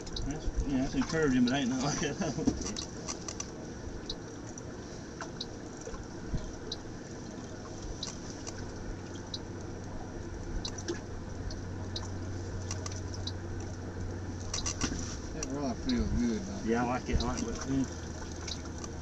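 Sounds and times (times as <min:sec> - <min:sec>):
low steady hum: 0:00.0 - 0:19.0
water sloshing and dripping: 0:00.0 - 0:19.0.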